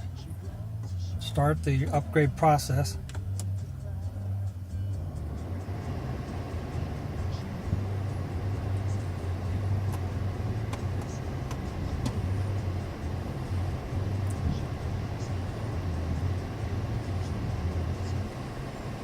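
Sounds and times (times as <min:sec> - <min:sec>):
car engine idling: 0:00.0 - 0:19.0
climate control fan blowing: 0:00.0 - 0:19.0.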